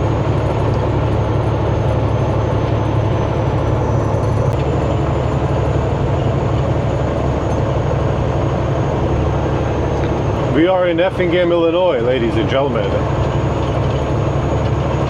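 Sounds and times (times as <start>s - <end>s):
truck engine droning: 0.0s - 15.0s
tyre and road noise: 0.0s - 15.0s.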